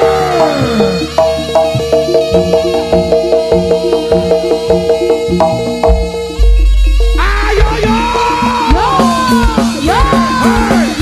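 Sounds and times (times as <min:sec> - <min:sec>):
gamelan metal percussion: 0:00.0 - 0:11.0.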